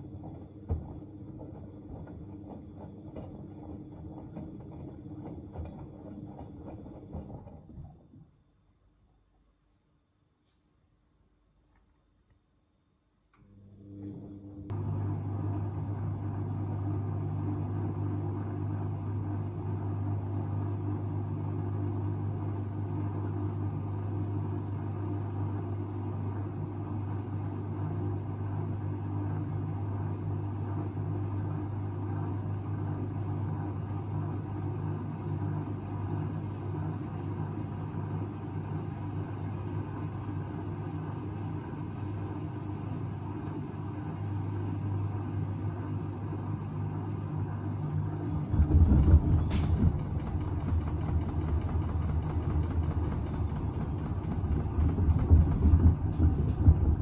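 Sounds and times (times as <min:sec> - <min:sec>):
washing machine drum humming: 0:00.0 - 0:08.5, 0:13.4 - 0:57.0.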